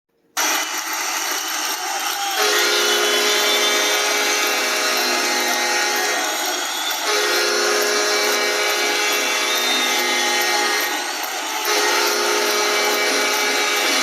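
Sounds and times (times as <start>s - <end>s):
loud crowd noise: 0.4s - 14.0s
multi-tone goal horn: 0.4s - 14.0s.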